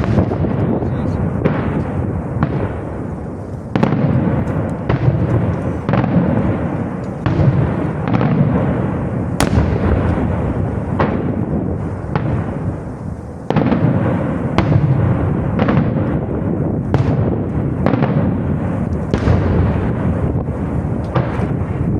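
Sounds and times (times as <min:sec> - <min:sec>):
firework shells bursting: 0:00.0 - 0:21.9
low rumble of booms: 0:00.0 - 0:21.9.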